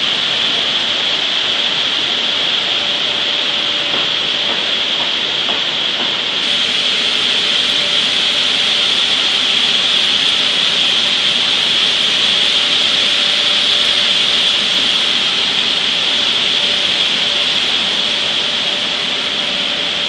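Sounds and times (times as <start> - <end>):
mill machinery hissing: 0.0 - 20.0.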